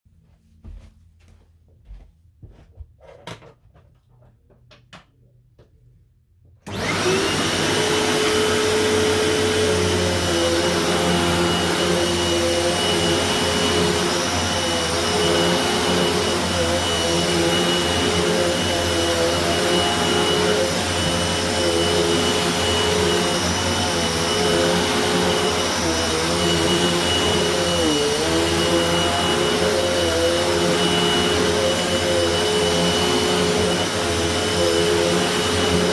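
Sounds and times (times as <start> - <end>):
vacuum cleaner whining: 6.6 - 35.9.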